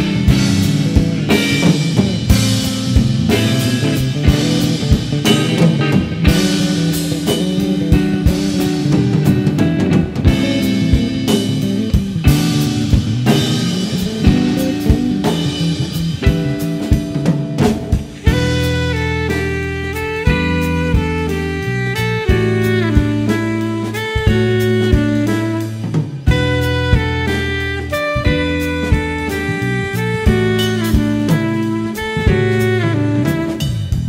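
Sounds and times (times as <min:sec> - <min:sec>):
drum kit with cymbal hits: 0:00.0 - 0:34.0
electric bass: 0:00.0 - 0:34.0
guitar: 0:00.0 - 0:34.0.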